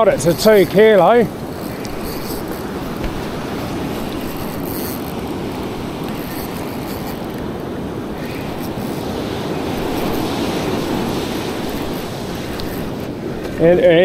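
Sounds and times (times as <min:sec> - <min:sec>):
surf washing up beach: 0:00.0 - 0:14.0
wind on microphone: 0:00.0 - 0:14.0.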